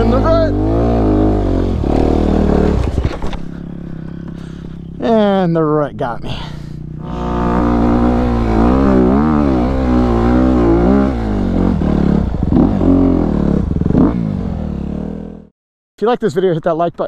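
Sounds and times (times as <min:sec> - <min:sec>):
dirt bike engine revving: 0:00.0 - 0:05.9, 0:06.7 - 0:15.5.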